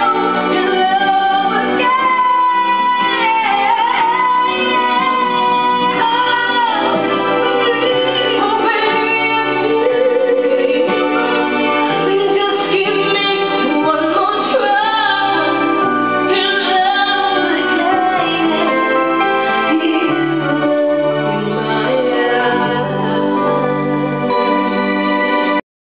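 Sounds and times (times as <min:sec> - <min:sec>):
woman singing into a microphone: 0:00.0 - 0:24.6.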